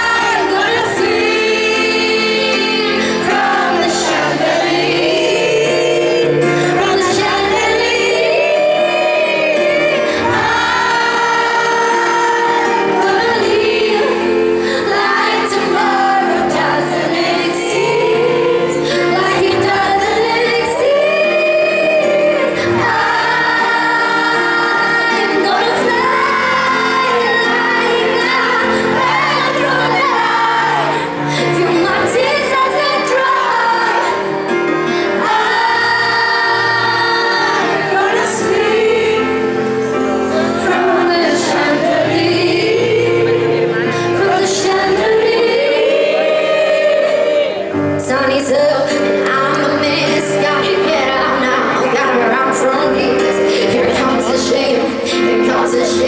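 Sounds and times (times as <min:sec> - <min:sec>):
amplified band playing pop: 0:00.0 - 0:56.0
woman singing into microphone: 0:00.0 - 0:56.0.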